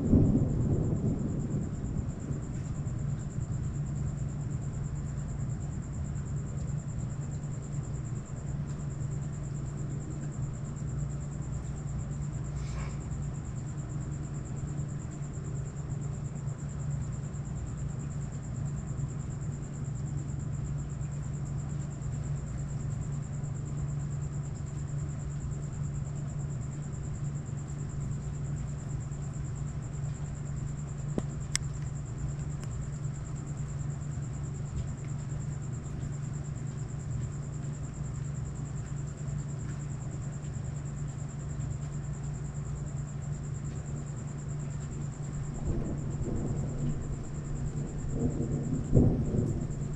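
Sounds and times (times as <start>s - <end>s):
insects chirring: 0.0s - 49.9s
steady low hum: 0.0s - 49.9s.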